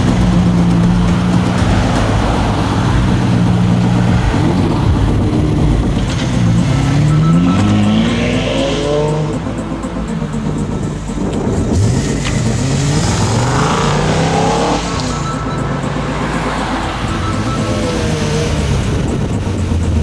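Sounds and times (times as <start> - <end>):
car engine revving and accelerating: 0.0 - 20.0.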